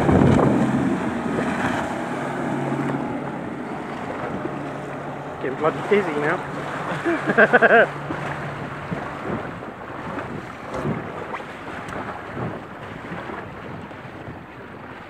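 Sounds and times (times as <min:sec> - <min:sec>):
outboard motor hum: 0:00.0 - 0:15.0
water sloshing against hull: 0:00.0 - 0:15.0
wind buffeting microphone: 0:00.0 - 0:15.0.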